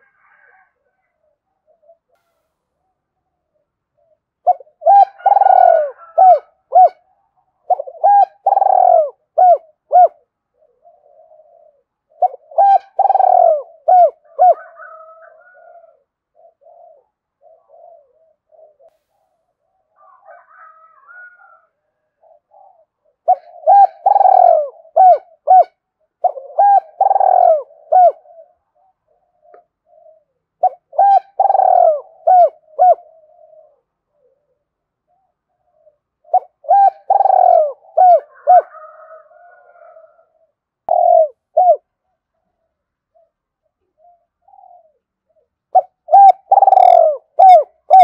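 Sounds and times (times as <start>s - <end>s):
dove cooing: 0.0s - 48.0s.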